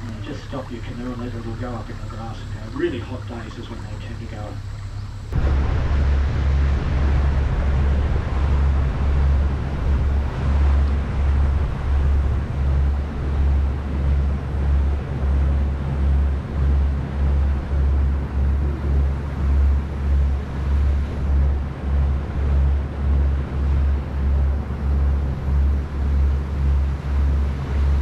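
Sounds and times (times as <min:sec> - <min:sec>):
boat motor: 0:00.0 - 0:28.0
pulsing low rumble: 0:00.0 - 0:28.0
rushing water: 0:00.0 - 0:28.0.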